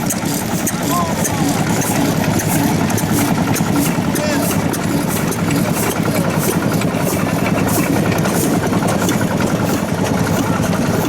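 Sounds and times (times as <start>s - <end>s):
stationary farm engines idling: 0.0s - 11.0s.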